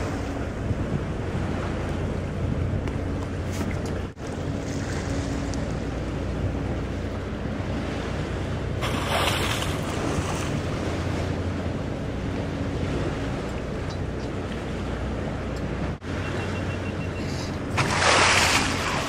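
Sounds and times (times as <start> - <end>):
wind buffeting microphone: 0.0 - 16.0
faint engine hum: 0.0 - 19.0
water rushing along hull: 0.0 - 19.0.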